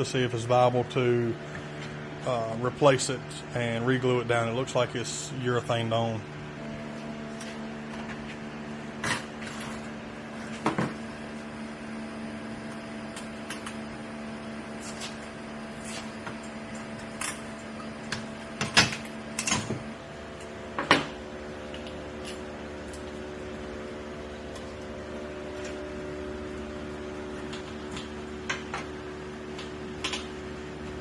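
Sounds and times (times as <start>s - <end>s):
steady hum: 0.0s - 31.0s.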